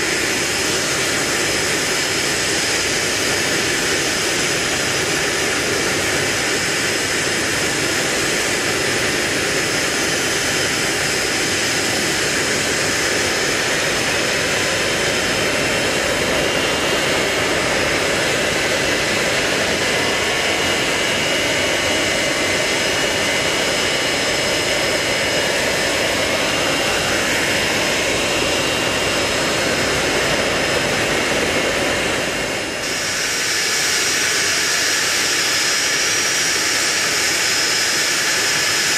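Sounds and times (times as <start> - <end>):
jet engines running with whine: 0.0 - 38.9.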